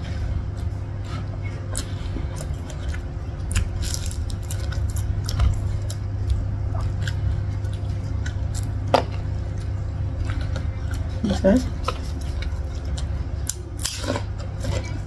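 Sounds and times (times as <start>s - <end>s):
steady low hum: 0.0s - 15.0s
chewing: 0.6s - 15.0s.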